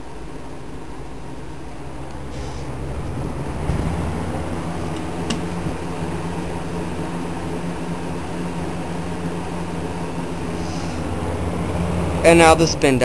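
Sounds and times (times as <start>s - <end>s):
box fan running: 0.0s - 13.0s.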